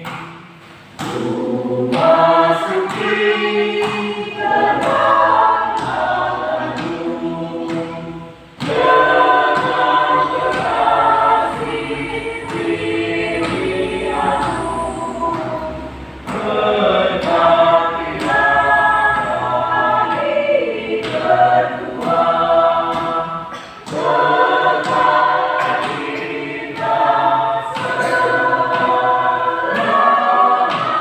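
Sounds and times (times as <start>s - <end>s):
choir singing: 1.0s - 31.0s.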